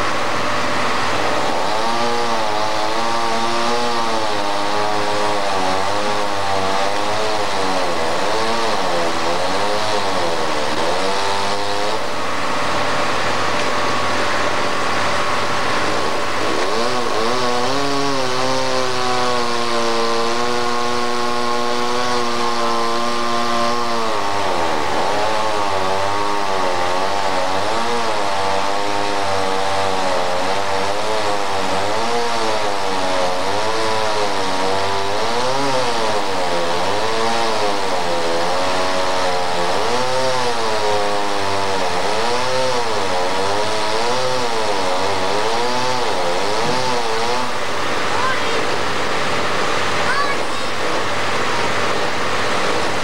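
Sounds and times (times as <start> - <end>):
chainsaw engine running: 0.0 - 53.0.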